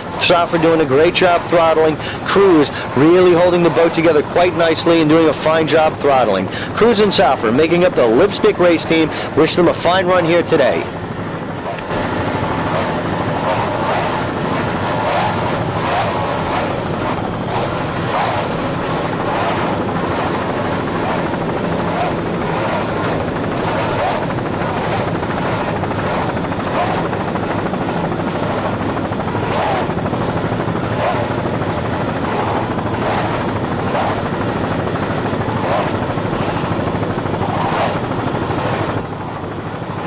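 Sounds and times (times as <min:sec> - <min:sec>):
loud engine drone: 0:00.0 - 0:40.0.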